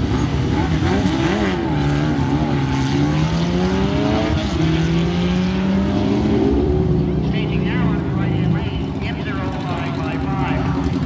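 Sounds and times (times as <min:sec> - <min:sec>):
motorcycle engines accelerating: 0:00.0 - 0:11.0.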